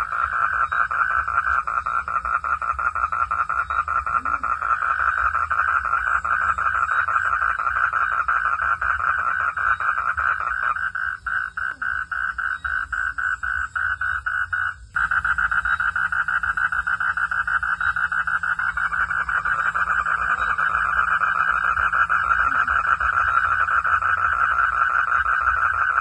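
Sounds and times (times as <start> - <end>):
frogs trilling: 0.0 - 26.0.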